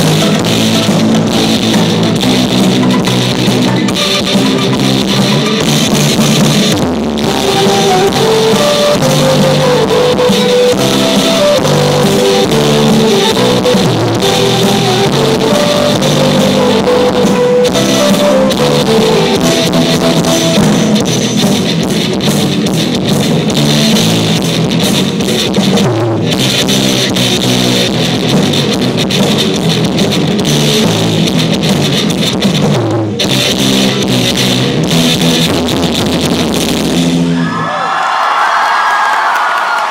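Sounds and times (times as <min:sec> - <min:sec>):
pop band playing live: 0:00.0 - 0:37.4.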